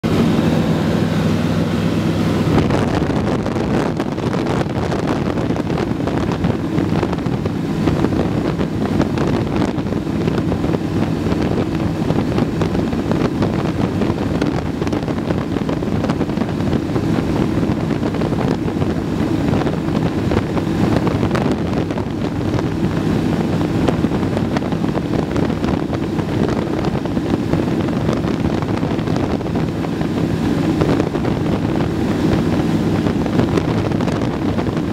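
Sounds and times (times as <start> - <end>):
aircraft engine and propeller drone: 0.0 - 34.9
wind rushing over microphone: 0.0 - 34.9.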